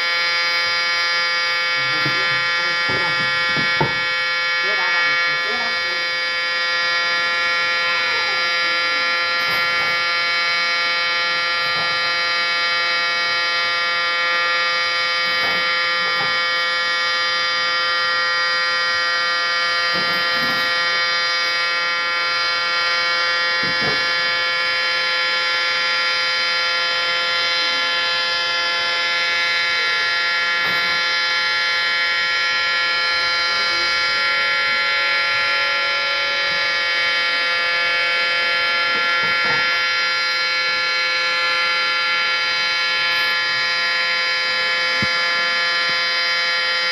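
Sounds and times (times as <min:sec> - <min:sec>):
warning siren steady tone: 0:00.0 - 0:46.9.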